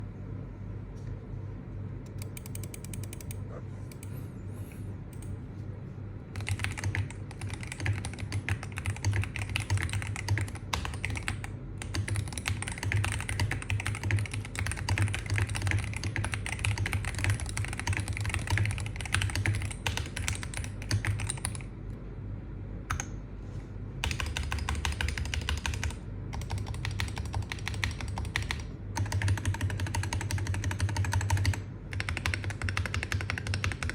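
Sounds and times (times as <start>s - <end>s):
steady low hum: 0.0s - 33.9s
keyboard typing: 2.1s - 4.2s, 6.4s - 21.7s, 22.9s - 23.2s, 24.0s - 33.9s.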